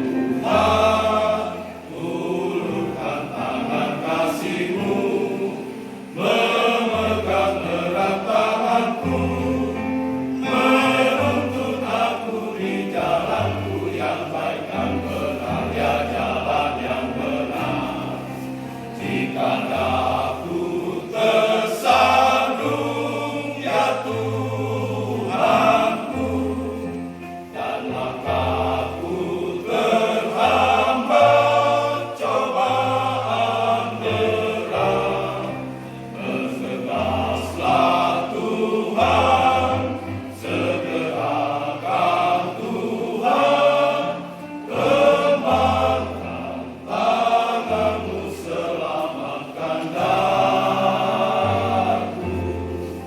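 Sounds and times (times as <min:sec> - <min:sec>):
church choir singing: 0:00.0 - 0:53.0.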